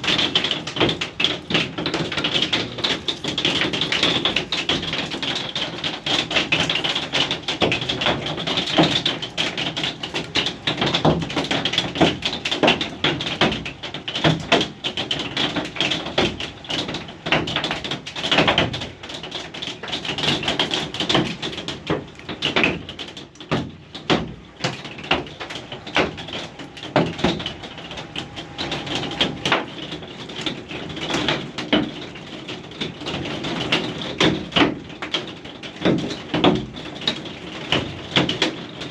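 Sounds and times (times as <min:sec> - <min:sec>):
hailstones clattering: 0:00.0 - 0:38.9.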